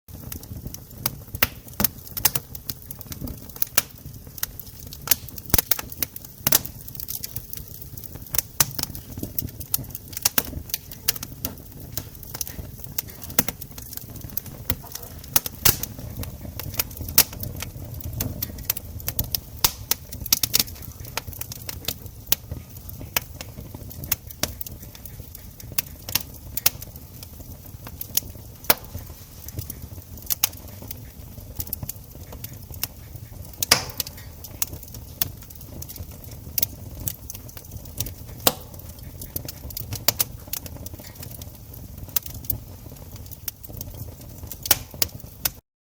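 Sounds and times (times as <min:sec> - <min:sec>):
burning logs crackling and popping: 0:00.1 - 0:45.6
low rumble of fire: 0:00.1 - 0:45.6.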